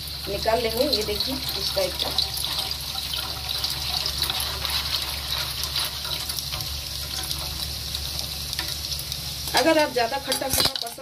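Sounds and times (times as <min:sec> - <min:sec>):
juice dripping into steel pan: 0:00.0 - 0:09.2.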